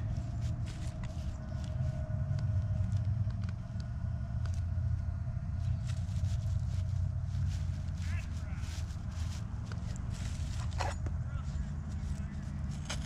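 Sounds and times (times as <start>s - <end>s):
hand scratching through dry grass: 0.0s - 3.1s, 5.5s - 13.0s
steady low rumble: 0.0s - 13.0s.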